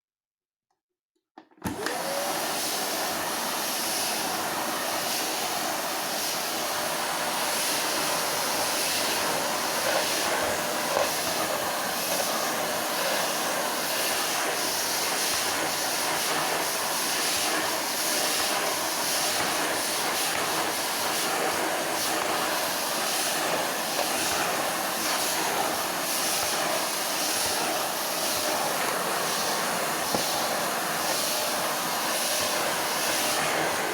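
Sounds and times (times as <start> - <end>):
vacuum cleaner running: 1.4 - 33.9.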